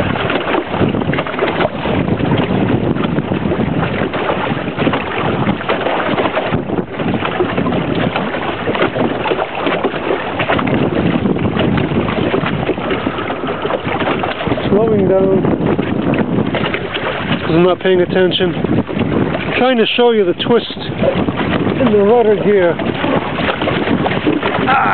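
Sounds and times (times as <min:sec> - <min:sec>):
water rushing past hull: 0:00.0 - 0:24.9
wind buffeting microphone: 0:00.0 - 0:24.9.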